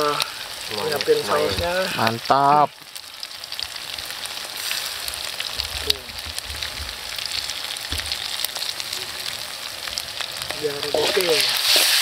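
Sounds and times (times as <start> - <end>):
food sizzling in hot oil: 0.0 - 12.0
wood fire crackling: 0.0 - 12.0.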